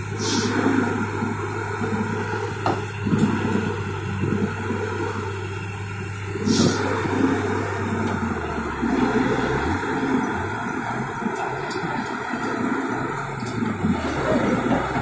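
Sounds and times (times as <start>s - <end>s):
diesel engines humming: 0.0s - 15.0s
logs dragging over dirt: 0.2s - 15.0s.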